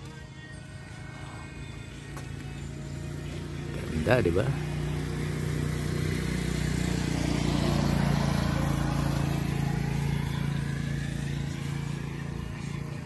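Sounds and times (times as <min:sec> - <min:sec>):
small motorcycle passing by: 0:00.0 - 0:13.0.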